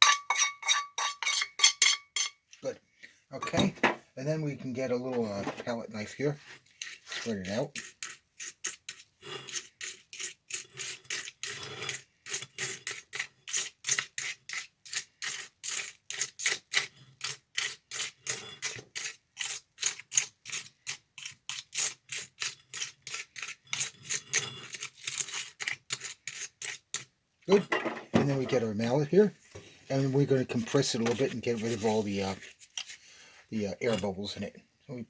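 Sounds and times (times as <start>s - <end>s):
palette knife scraping gritty mix: 4.7s - 27.1s, 28.2s - 34.5s.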